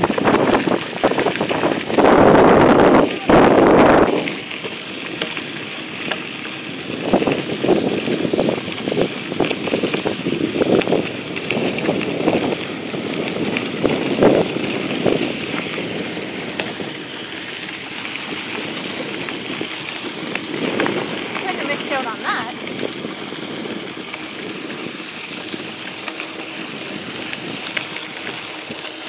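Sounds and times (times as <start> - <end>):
tyres crunching on gravel: 0.0 - 29.0
wind buffeting microphone: 0.0 - 29.0.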